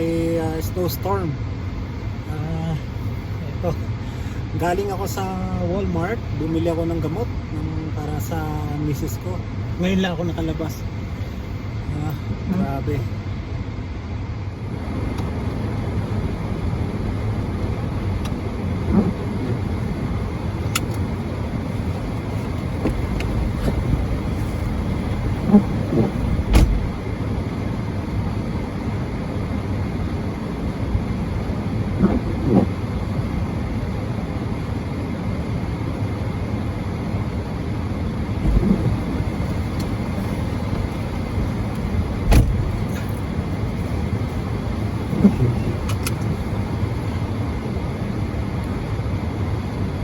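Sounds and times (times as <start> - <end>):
car engine and road rumble: 0.0 - 50.0.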